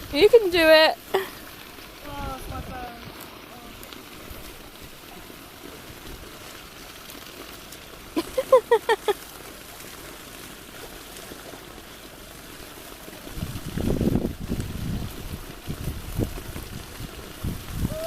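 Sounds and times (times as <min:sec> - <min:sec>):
light wind: 0:00.0 - 0:18.0
water: 0:00.0 - 0:18.0.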